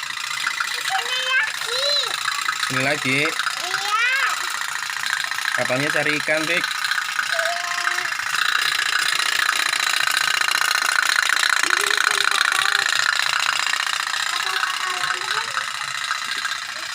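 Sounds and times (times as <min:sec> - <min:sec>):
toy steam boat putting: 0:00.0 - 0:16.9.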